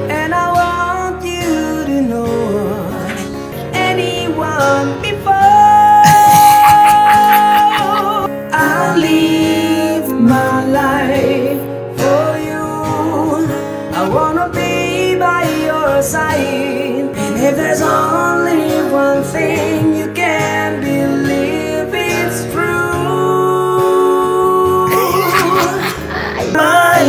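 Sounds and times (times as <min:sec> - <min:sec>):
acoustic guitar: 0:00.0 - 0:27.0
man singing: 0:00.0 - 0:27.0.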